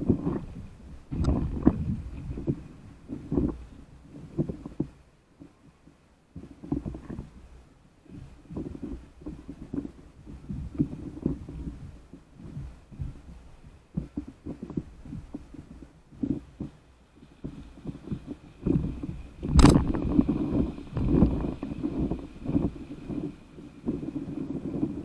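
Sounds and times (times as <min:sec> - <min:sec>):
water slapping paddle board: 0:00.0 - 0:25.0.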